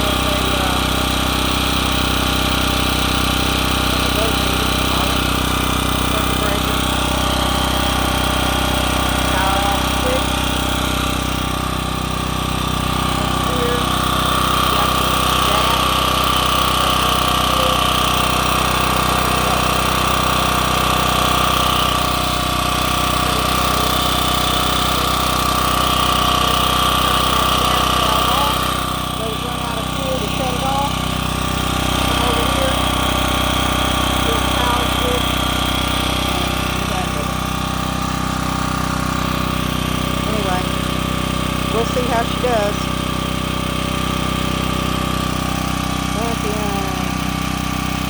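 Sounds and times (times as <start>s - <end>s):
generator engine running: 0.0s - 48.0s.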